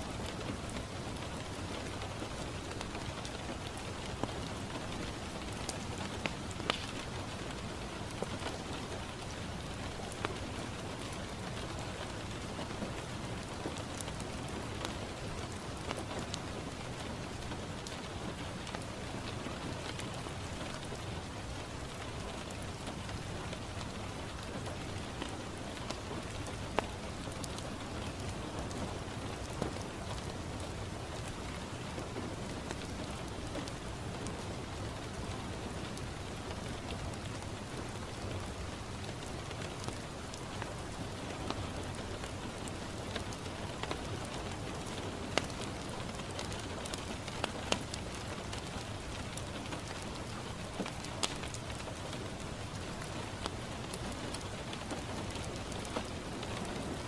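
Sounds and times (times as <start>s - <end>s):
rain falling on a window: 0.0s - 57.0s
wood fire crackling: 0.1s - 57.0s.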